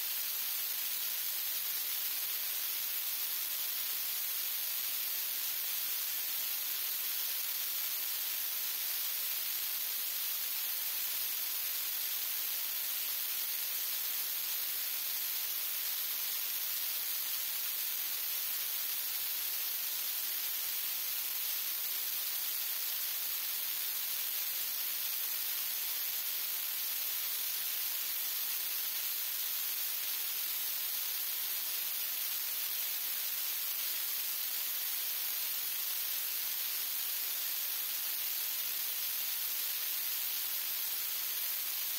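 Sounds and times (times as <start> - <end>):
static hiss: 0.0 - 41.9.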